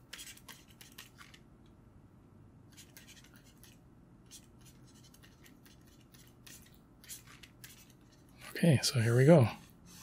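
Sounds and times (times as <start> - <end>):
stylus scratching on tablet: 0.0 - 1.4, 2.7 - 10.0.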